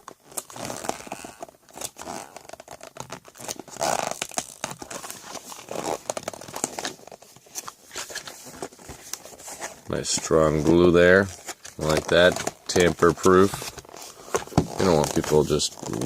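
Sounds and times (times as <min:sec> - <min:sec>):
cardboard box tearing open: 0:00.2 - 0:16.0.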